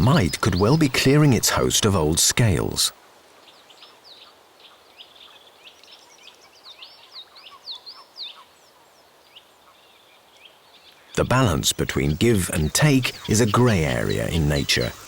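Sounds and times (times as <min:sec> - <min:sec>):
small birds chirping: 0:00.0 - 0:15.0
soft outdoor hiss: 0:00.0 - 0:15.0.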